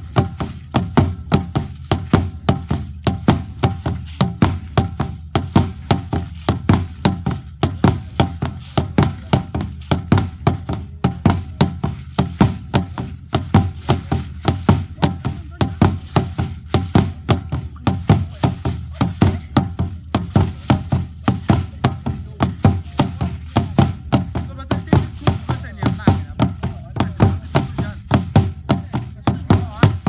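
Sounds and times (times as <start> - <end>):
large drum beaten steadily: 0.0 - 30.0.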